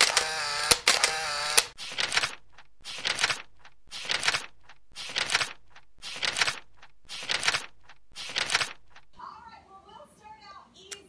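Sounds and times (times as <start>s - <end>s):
rhythmic crackling crunching: 0.0s - 9.2s.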